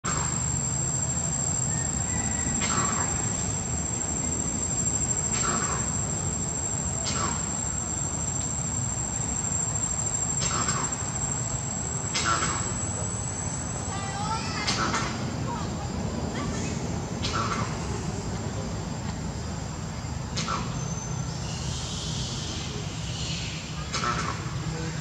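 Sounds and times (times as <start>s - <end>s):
insects buzzing: 0.1s - 25.0s.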